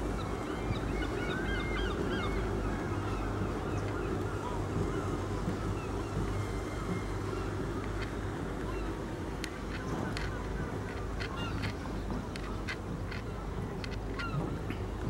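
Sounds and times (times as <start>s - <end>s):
low harbour rumble: 0.0s - 15.0s.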